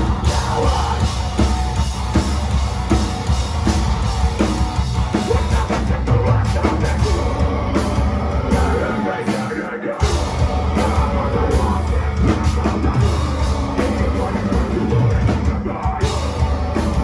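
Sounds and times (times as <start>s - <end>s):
heavy metal band playing: 0.0s - 17.0s
yelled vocals: 0.0s - 17.0s.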